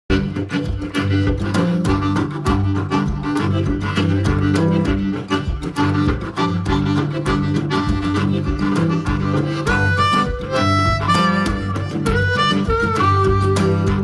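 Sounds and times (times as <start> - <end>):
music with beat strings and bass: 0.1 - 14.0.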